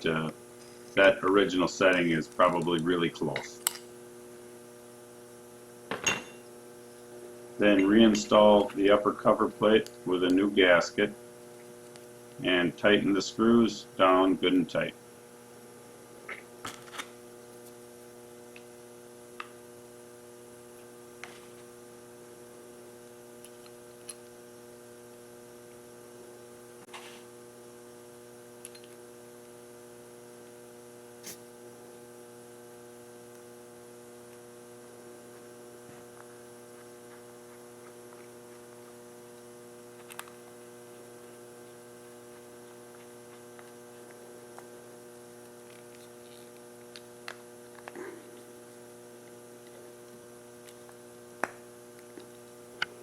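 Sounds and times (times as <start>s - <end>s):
electrical mains hum: 0.0s - 53.0s.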